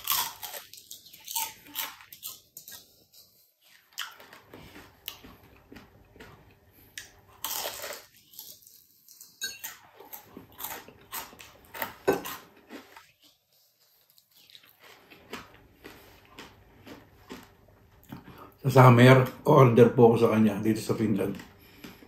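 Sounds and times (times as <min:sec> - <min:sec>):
crunchy food being chewed: 0:00.0 - 0:18.5, 0:20.8 - 0:22.0.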